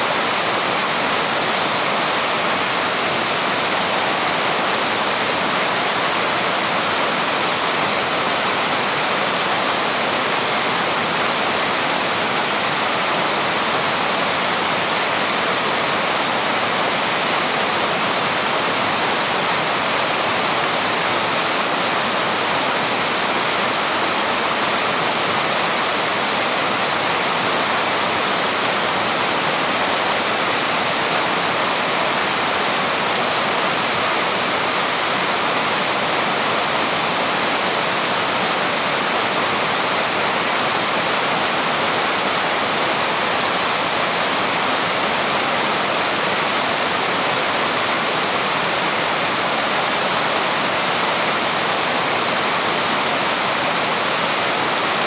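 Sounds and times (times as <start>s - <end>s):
waterfall pouring over rocks: 0.0s - 55.0s.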